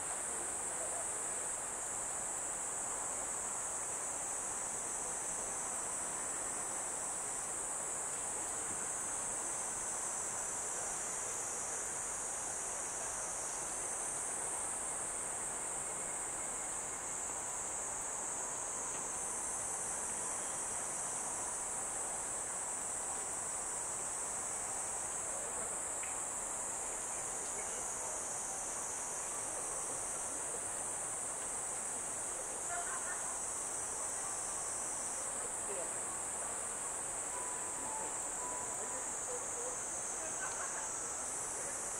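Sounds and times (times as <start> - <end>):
background hiss: 0.0 - 41.9
insects chirping chorus: 0.0 - 41.9.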